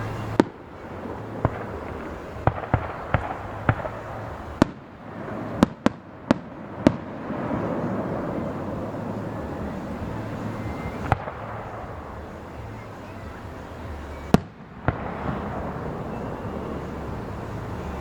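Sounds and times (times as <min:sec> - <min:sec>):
fireworks bursting with sharp bangs: 0:00.0 - 0:18.0.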